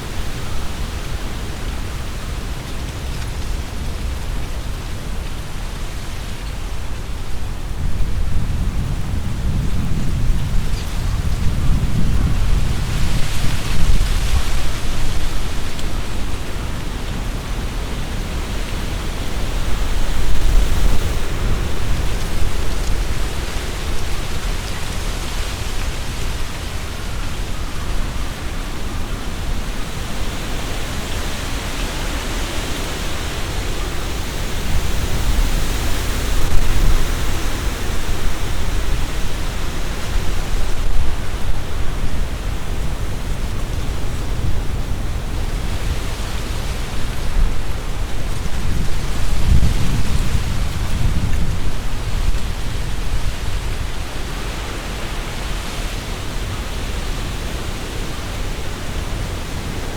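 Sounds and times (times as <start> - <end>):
leaves rustling in wind: 0.0 - 59.9
wind buffeting microphone: 0.0 - 59.9.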